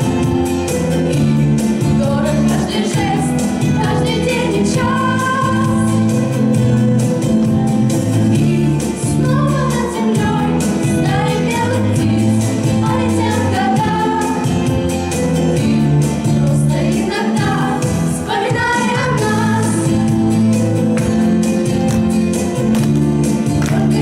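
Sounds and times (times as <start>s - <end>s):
voices singing a pop song: 0.0s - 20.6s, 23.4s - 24.0s
instrumental accompaniment with beat: 0.0s - 24.0s.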